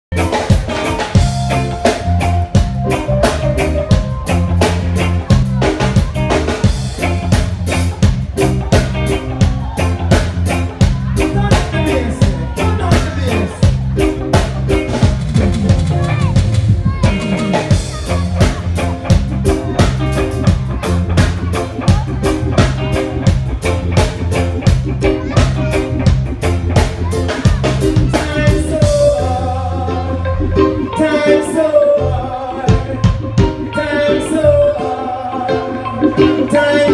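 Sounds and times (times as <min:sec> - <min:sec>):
live band playing: 0:00.1 - 0:36.9.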